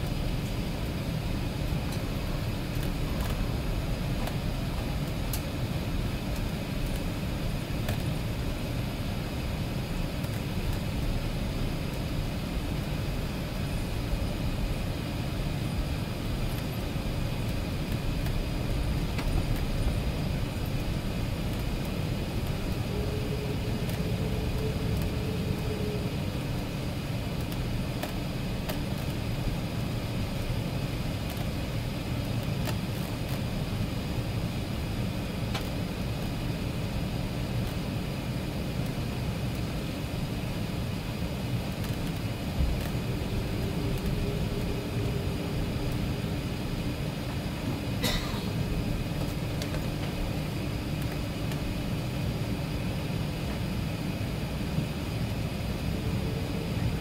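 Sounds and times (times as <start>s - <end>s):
airplane cabin rumble and hiss: 0.0s - 57.0s.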